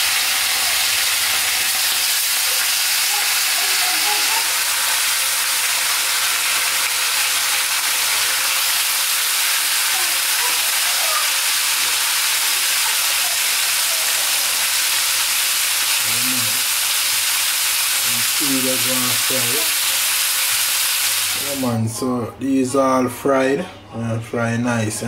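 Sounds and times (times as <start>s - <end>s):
fish sizzling in hot oil: 0.0s - 21.7s.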